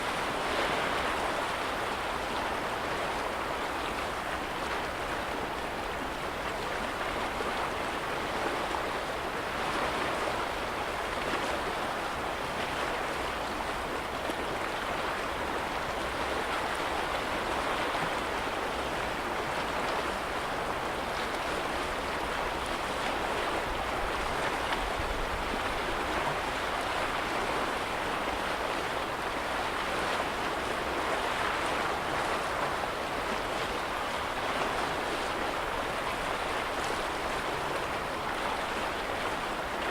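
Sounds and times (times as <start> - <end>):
small waves on a lake: 0.0 - 39.9.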